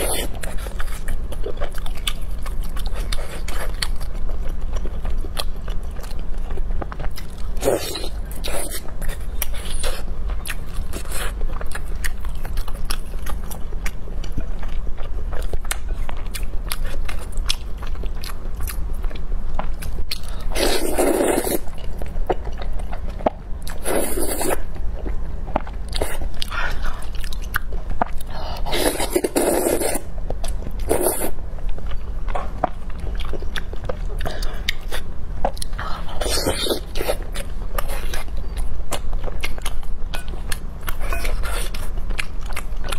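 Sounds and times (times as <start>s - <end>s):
chewing and biting: 0.0s - 42.9s.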